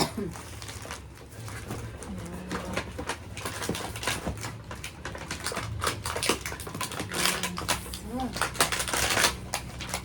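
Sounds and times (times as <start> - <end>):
gift packaging crinkling: 0.0 - 10.0.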